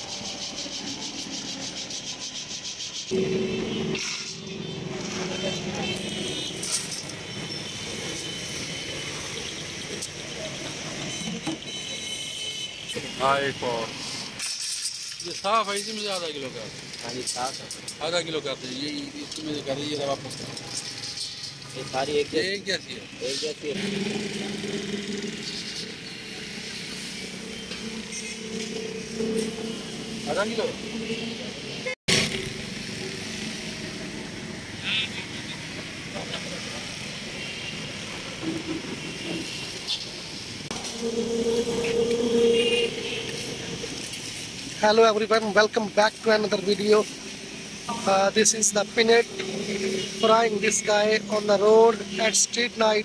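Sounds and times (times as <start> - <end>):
street traffic noise: 0.0 - 53.0.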